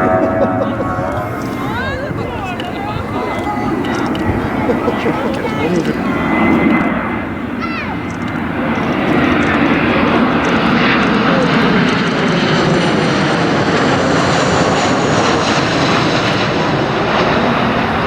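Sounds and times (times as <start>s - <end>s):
jet airliner flying by: 0.0s - 18.0s.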